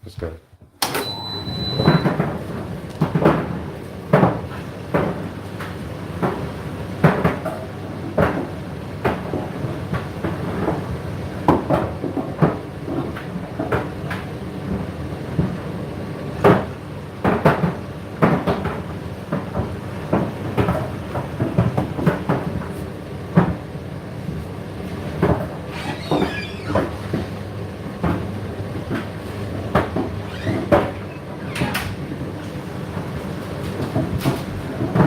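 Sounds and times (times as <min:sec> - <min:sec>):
washing machine and dryer hum: 0:00.0 - 0:35.0.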